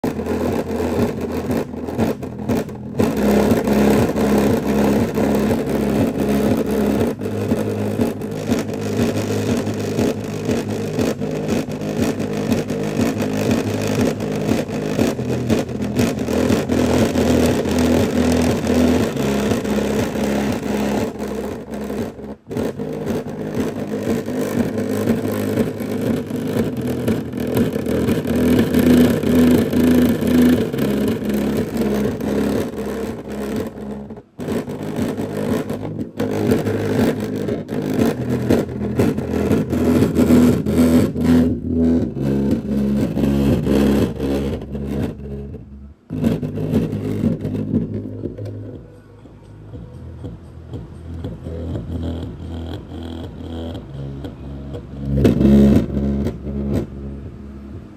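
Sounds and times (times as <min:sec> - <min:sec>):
speaker cabinet rattling: 0:00.0 - 0:49.0
pulsing bass from speaker: 0:00.0 - 0:57.9.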